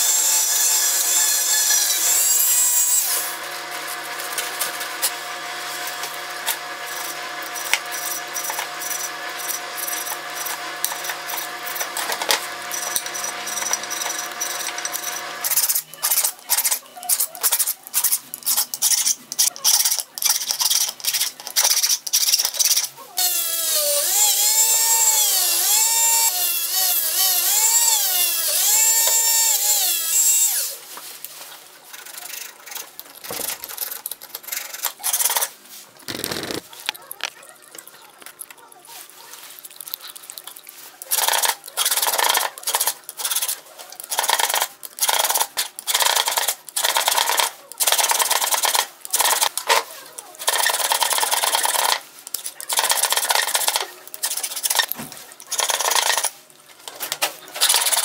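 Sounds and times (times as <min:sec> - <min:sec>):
rotary tool running: 0:00.0 - 0:30.8, 0:31.9 - 0:37.8, 0:41.0 - 0:49.6, 0:50.3 - 0:54.9, 0:57.5 - 0:58.0.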